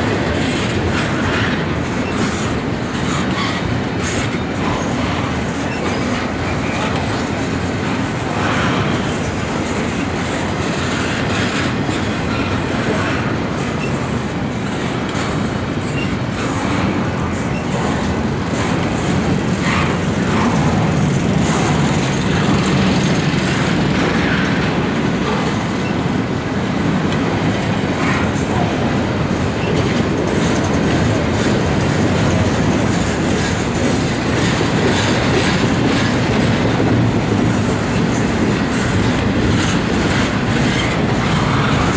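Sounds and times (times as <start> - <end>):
freight train rumble: 0.0 - 41.9
wheels clattering over rail joints: 0.0 - 41.9.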